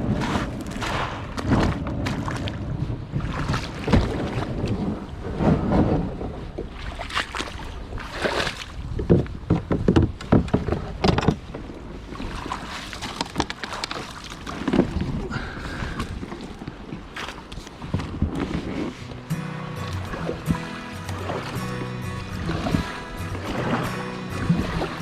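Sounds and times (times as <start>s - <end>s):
water splashing against kayak hull: 0.0s - 25.0s.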